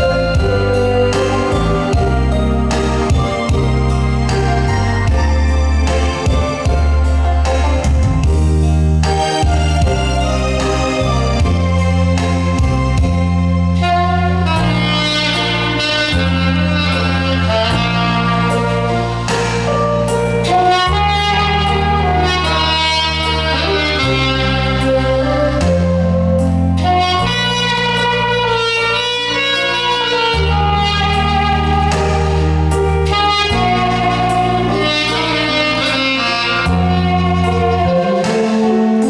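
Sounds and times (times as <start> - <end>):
held bass notes: 0.0 - 39.0
saxophone slow melody: 0.0 - 39.0.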